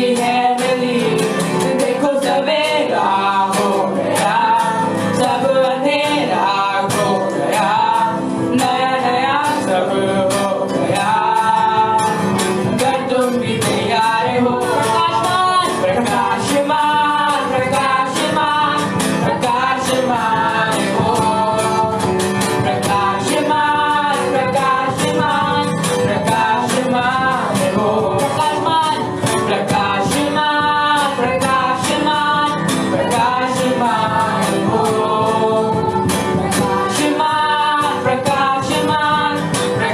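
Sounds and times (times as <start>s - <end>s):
man and woman singing: 0.0s - 39.9s
worship band with guitar and beat: 0.0s - 39.9s.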